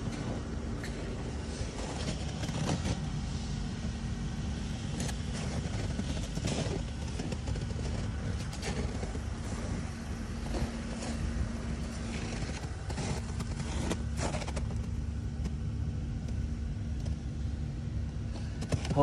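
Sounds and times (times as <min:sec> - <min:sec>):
footsteps crunching in snow: 0:00.0 - 0:15.6
car engine idling: 0:00.0 - 0:19.0.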